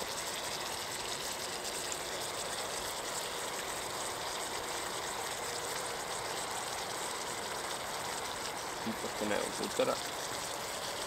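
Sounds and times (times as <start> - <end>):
steak sizzling in a frying pan: 0.0 - 11.0.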